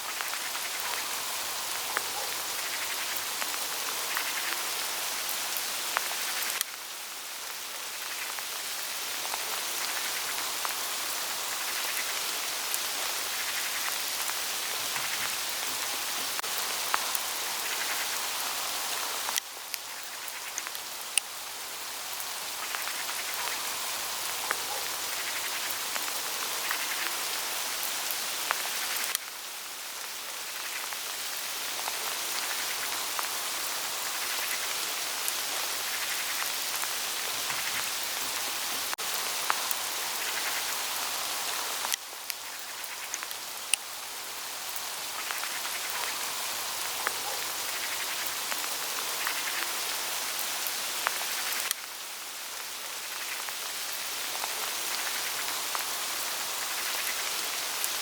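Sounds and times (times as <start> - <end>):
hail falling on dry leaves: 0.0 - 58.0.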